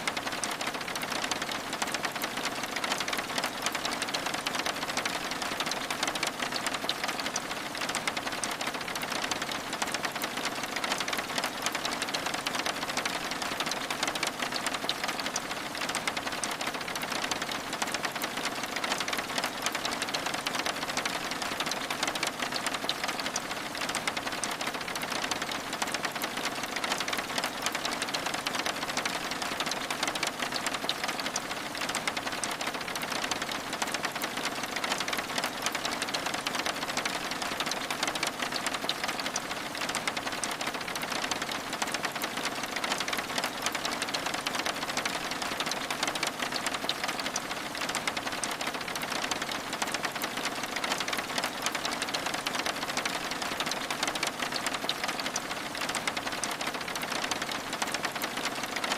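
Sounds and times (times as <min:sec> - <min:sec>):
rain on window glass: 0:00.0 - 0:58.9.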